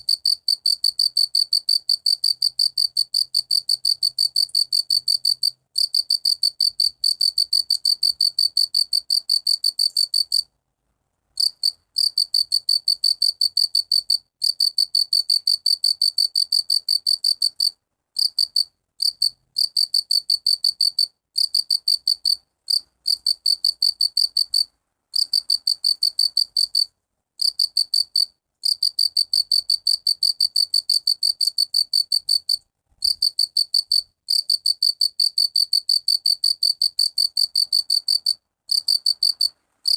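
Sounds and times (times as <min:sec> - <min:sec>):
cricket chirping: 0:00.0 - 0:10.5, 0:11.4 - 0:39.9.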